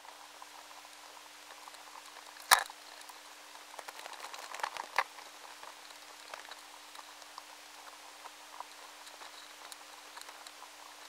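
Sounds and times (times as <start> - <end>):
faint clicks and crackles: 0.0 - 11.0.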